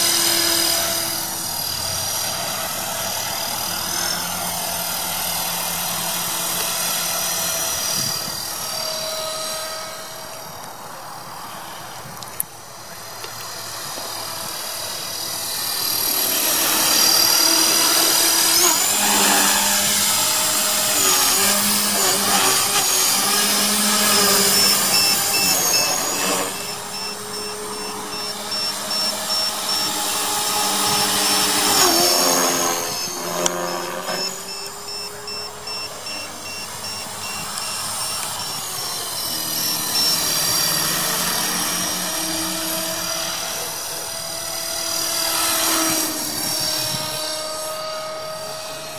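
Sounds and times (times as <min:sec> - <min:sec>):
rc helicopter whine: 0:00.0 - 0:48.9.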